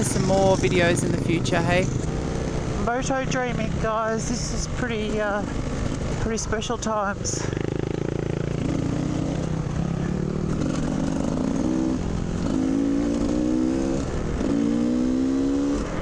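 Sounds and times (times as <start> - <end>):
dirt bike engine accelerating: 0.0 - 16.0.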